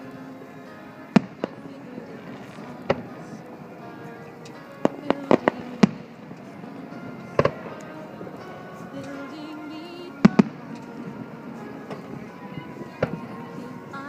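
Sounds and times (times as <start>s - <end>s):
background music: 0.0s - 14.0s
fireworks exploding: 0.0s - 14.0s.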